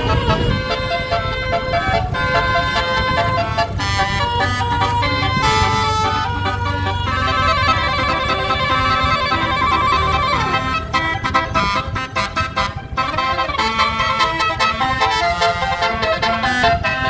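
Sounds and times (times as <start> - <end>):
bus engine running: 0.0 - 17.0
musical air horn playing a tune: 0.0 - 17.0.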